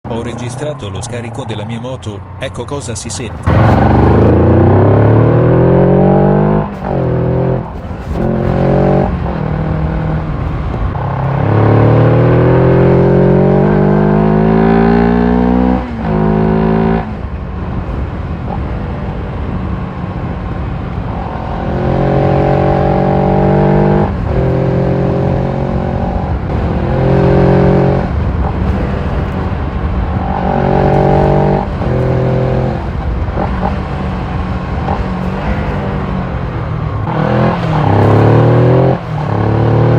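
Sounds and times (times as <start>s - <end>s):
motorcycle engine revving: 3.4s - 17.3s, 20.7s - 39.9s.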